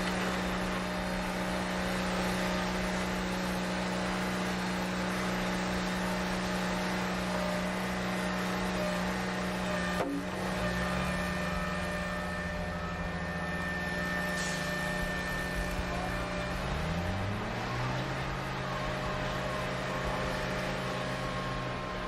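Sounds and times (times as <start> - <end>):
small motor humming: 0.0 - 22.0.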